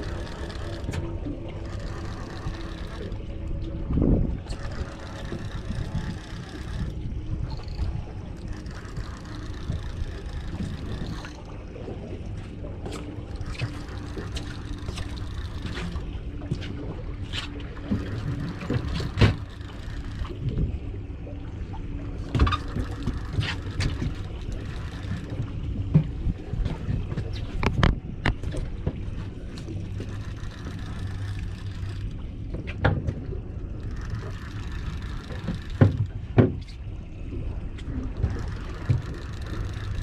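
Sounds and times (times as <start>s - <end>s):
boat engine running: 0.0s - 40.0s
water noise: 0.0s - 40.0s
wind: 0.0s - 40.0s.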